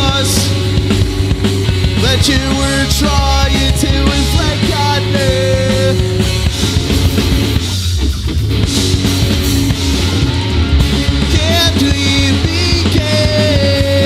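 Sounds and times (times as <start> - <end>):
bass guitar: 0.0 - 14.0
drum kit: 0.0 - 14.0
electric guitars: 0.0 - 14.0.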